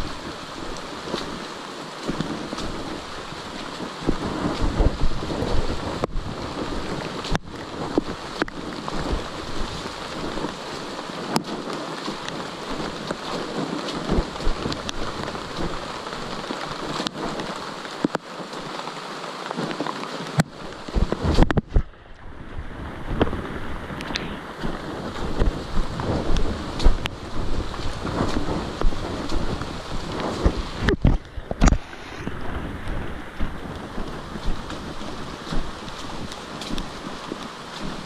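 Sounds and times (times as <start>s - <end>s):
steady rushing noise: 0.0s - 38.0s.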